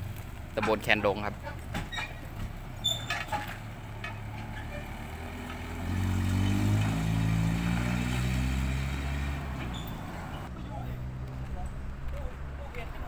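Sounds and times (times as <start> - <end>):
truck engine accelerating: 1.6 - 12.8.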